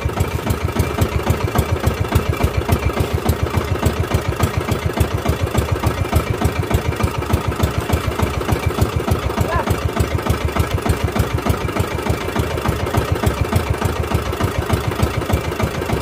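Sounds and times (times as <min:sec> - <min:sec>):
boat engine chugging: 0:00.0 - 0:16.0.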